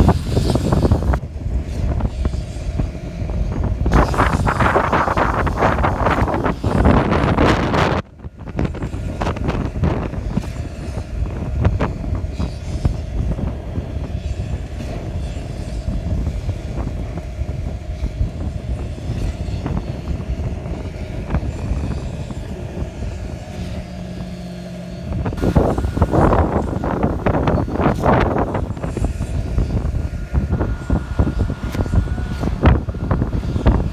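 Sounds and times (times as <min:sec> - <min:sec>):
concrete pump humming: 0:00.0 - 0:33.9
wind buffeting microphone: 0:00.0 - 0:33.9.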